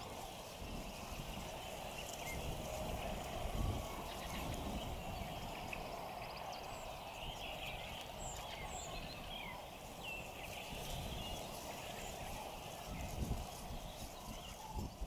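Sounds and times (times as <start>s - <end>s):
birds chirping and whistling: 0.0s - 15.0s
steady background hum: 0.0s - 15.0s.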